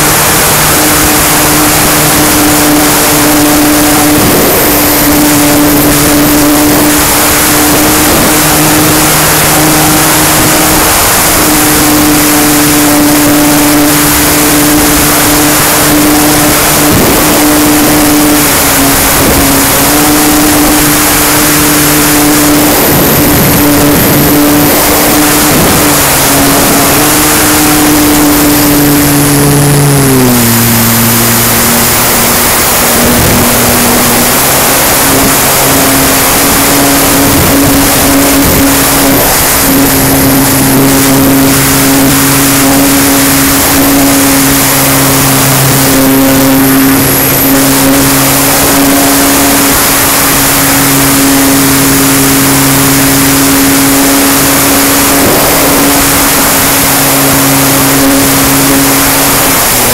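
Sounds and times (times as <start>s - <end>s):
electric motor and propeller whine: 0.0s - 59.9s
rush of air on microphone: 0.0s - 59.9s.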